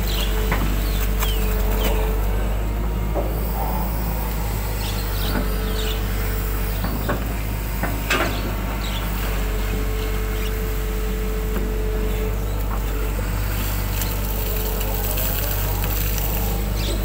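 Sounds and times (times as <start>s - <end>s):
excavator diesel engine running: 0.0s - 17.0s
steady whine: 0.0s - 17.0s.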